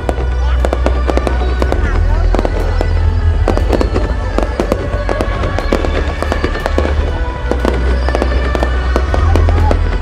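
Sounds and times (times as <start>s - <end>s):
fireworks bursting and crackling: 0.0s - 10.0s.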